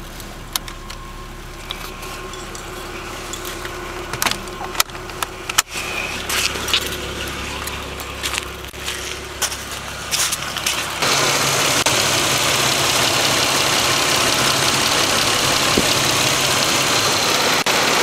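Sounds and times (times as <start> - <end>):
car engine running: 0.0 - 18.0
engine whine: 0.0 - 18.0.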